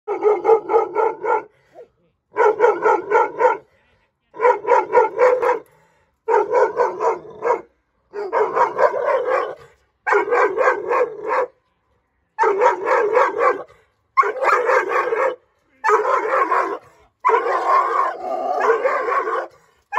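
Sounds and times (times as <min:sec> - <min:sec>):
dog barking aggressively: 0:00.1 - 0:01.5, 0:02.3 - 0:03.6, 0:04.4 - 0:05.6, 0:06.3 - 0:11.5, 0:12.4 - 0:19.6.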